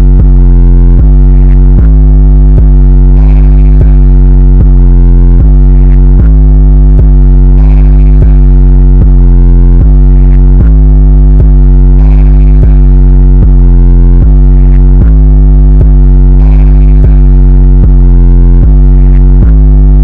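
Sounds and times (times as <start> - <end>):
loud music with deep bass: 0.0 - 20.0.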